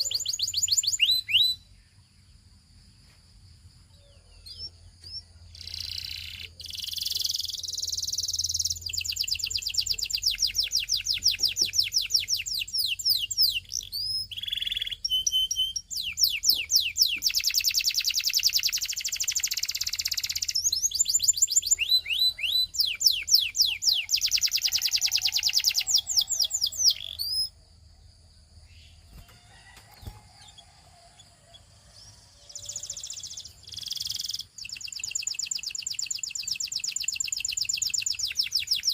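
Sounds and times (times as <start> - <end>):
canary singing rolling trills: 0.0 - 2.7, 3.7 - 38.9.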